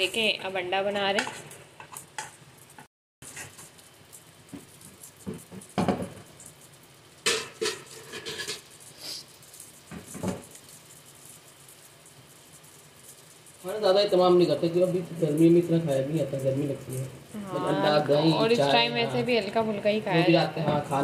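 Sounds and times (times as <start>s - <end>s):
egg sizzling in a pan: 0.0s - 21.0s.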